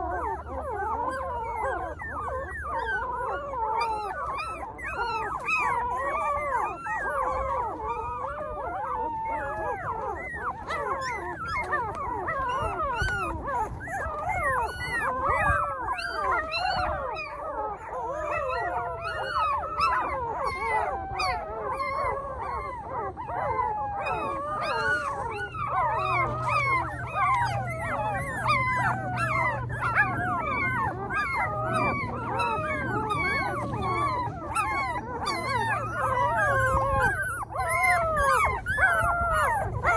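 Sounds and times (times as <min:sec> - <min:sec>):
puppies whining and yelping: 0:00.0 - 0:39.9.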